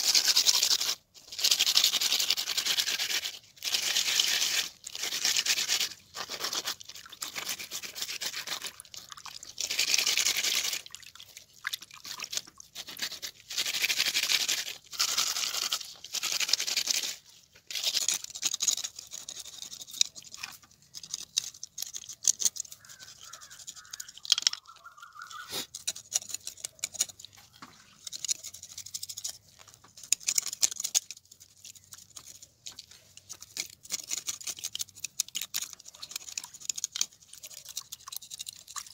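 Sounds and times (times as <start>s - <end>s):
fish scraping on stone: 0.0s - 10.9s, 12.0s - 38.9s.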